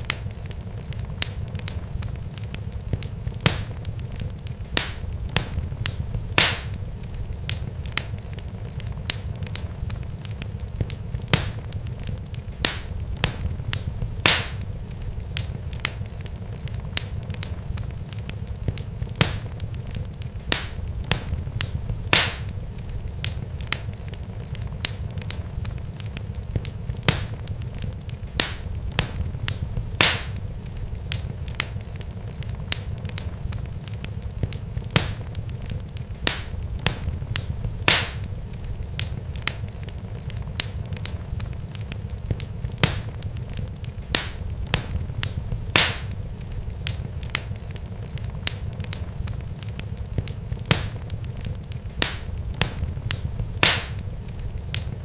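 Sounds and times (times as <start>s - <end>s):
fire crackling and popping: 0.0s - 55.0s
steady low rumble: 0.0s - 55.0s.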